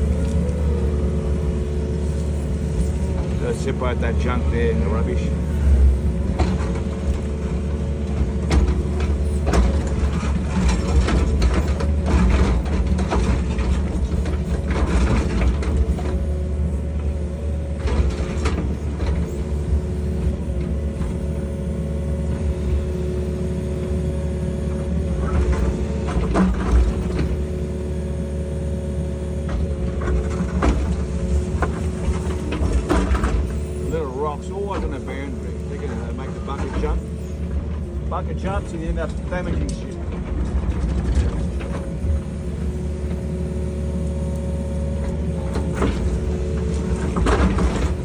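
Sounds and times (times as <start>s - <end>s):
excavator engine running: 0.0s - 48.0s
hydraulic whine: 0.0s - 48.0s.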